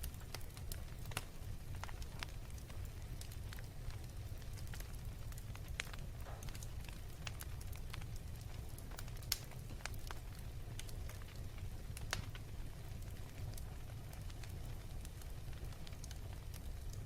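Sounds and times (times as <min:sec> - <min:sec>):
fire rumbling: 0:00.0 - 0:17.0
wood crackling and popping: 0:00.0 - 0:17.0.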